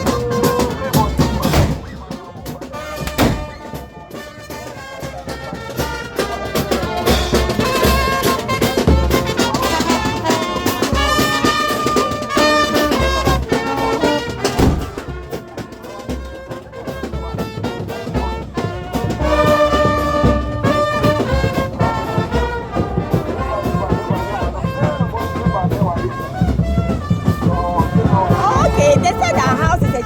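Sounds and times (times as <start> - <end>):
steady drum beat: 0.0 - 30.0
trumpets and trombones: 0.0 - 30.0.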